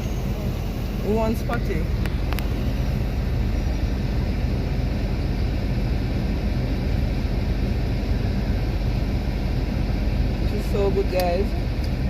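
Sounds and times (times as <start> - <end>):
car rumble: 0.0 - 12.0.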